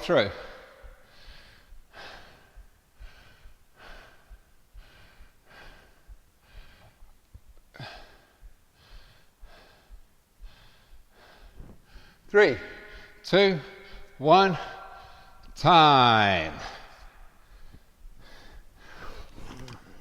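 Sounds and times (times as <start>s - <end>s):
man breathing hard: 0.0s - 15.6s, 16.5s - 20.0s.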